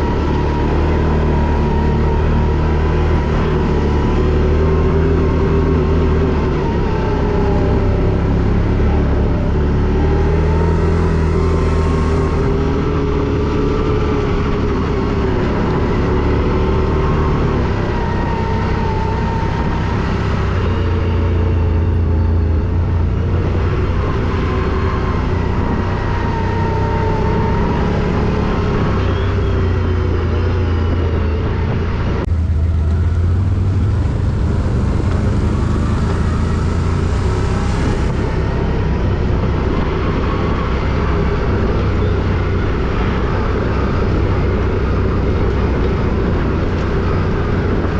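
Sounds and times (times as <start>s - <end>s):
quad bike engine running: 0.0s - 47.9s.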